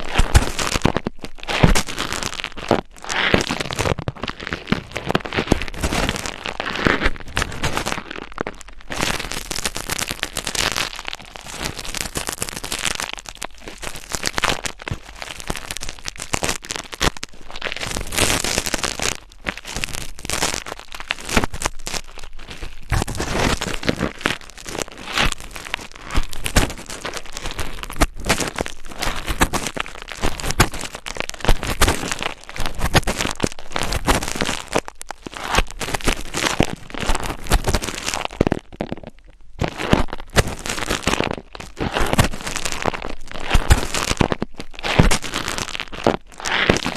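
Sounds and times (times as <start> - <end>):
asmr scratching and crackling: 0.0 - 46.9.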